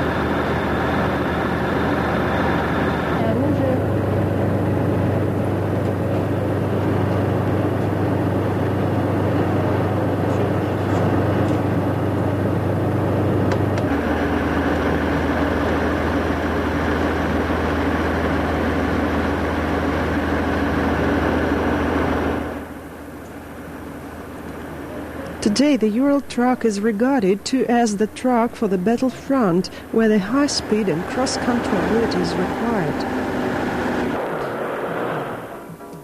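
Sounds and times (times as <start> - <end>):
truck engine low drone: 0.0 - 36.0.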